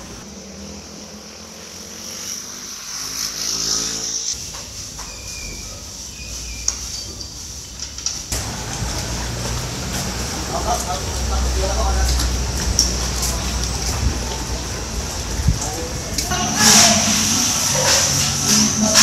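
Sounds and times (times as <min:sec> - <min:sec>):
outdoor ambience hiss: 0:00.0 - 0:19.0.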